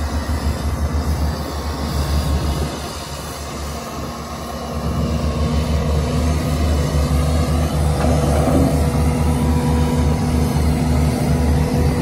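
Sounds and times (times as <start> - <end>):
diesel machinery engine rumbling: 0.0 - 12.0.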